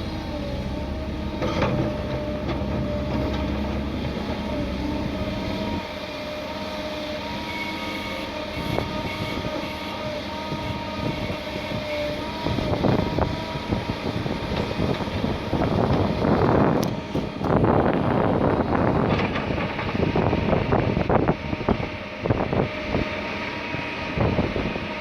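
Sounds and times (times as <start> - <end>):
excavator diesel engines running: 0.0 - 25.0.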